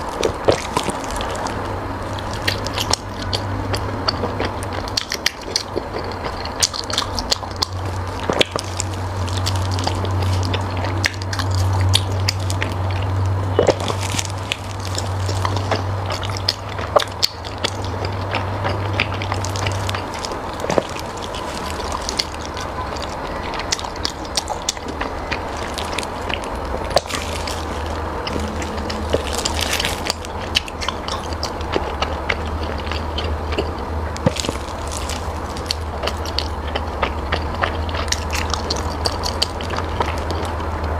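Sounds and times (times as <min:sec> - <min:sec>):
low steady hum: 0:00.0 - 0:40.9
mouth clicks: 0:00.0 - 0:40.9
wet chewing and smacking: 0:00.0 - 0:40.9.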